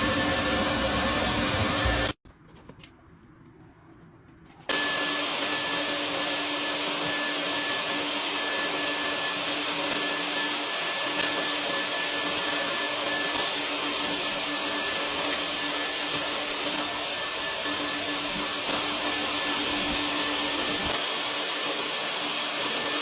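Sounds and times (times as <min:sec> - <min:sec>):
vacuum cleaner running: 0:00.0 - 0:02.2, 0:04.7 - 0:23.0.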